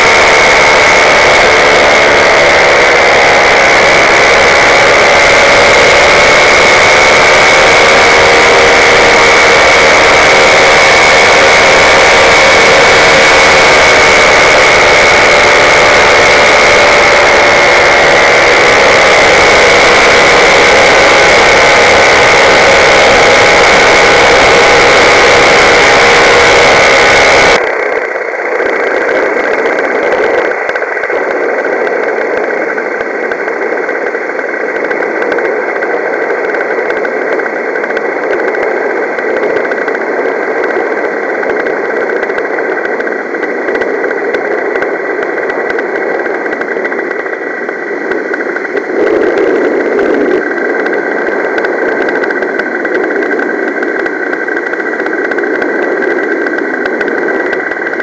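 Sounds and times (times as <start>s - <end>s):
paramotor engine and propeller drone: 0.0s - 58.0s.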